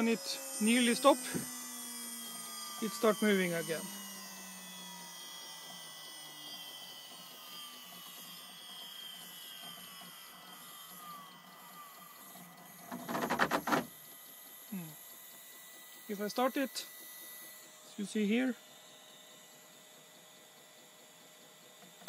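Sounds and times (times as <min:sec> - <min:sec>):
spindle whine winding down: 0:00.0 - 0:22.0
stepper motors buzzing pulses: 0:00.0 - 0:22.0.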